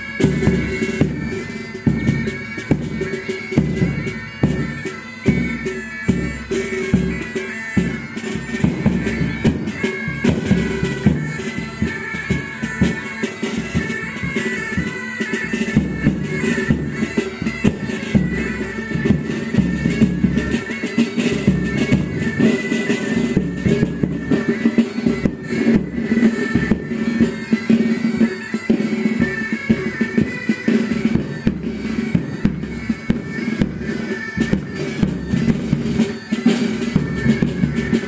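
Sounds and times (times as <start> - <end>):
bagpipes playing: 0.0 - 38.0
drums beating: 0.0 - 38.0.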